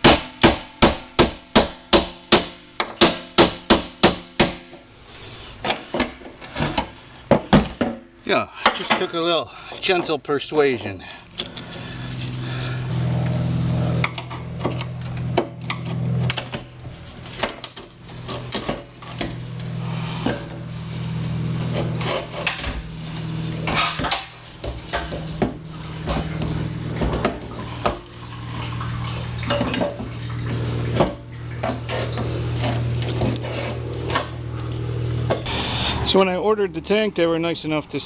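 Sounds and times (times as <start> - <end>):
low steady hum: 4.7 - 37.5.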